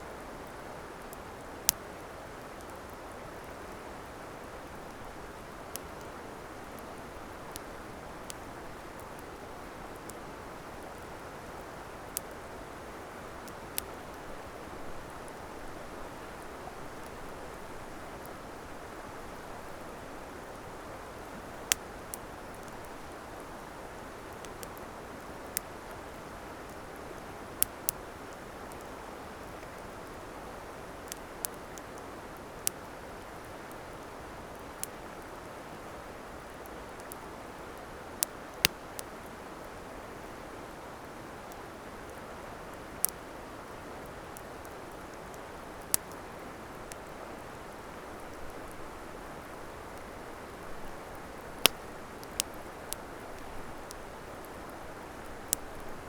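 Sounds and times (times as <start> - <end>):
campfire crackling and popping: 0.4 - 35.3, 36.0 - 40.3, 41.4 - 56.0.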